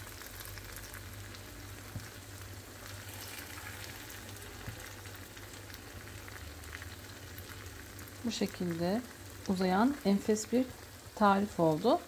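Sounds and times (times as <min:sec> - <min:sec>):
butter sizzling faintly in a pan: 0:00.0 - 0:12.0
low steady hum: 0:00.0 - 0:12.0.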